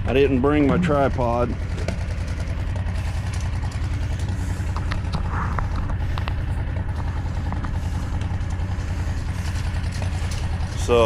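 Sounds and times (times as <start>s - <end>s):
skid steer engine running: 0.0s - 11.0s
light clicks and rattles: 0.6s - 11.0s.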